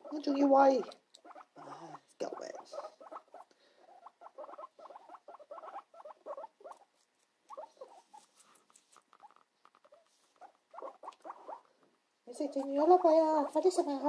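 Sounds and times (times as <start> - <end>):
guinea pig chewing: 0.0 - 14.0.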